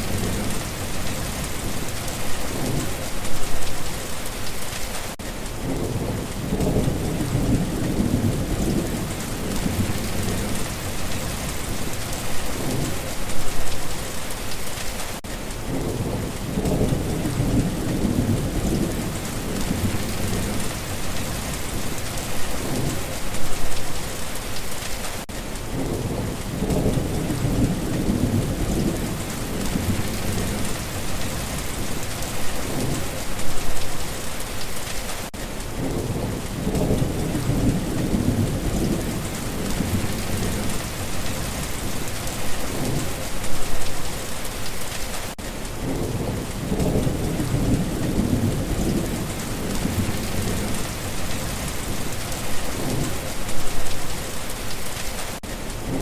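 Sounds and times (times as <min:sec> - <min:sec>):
low rumble of thunder: 0:00.0 - 0:03.6, 0:05.6 - 0:13.7, 0:15.6 - 0:23.8, 0:25.7 - 0:34.0, 0:35.7 - 0:44.0, 0:45.8 - 0:54.4
steady rain falling: 0:00.0 - 0:56.0.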